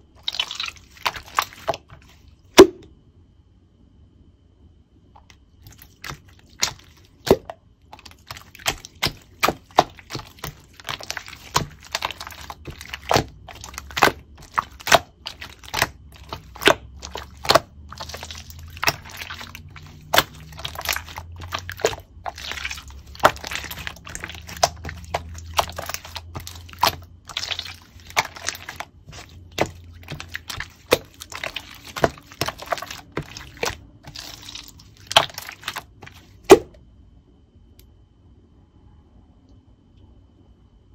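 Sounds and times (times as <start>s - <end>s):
slime squished by hand: 0.0s - 2.8s, 5.2s - 36.8s.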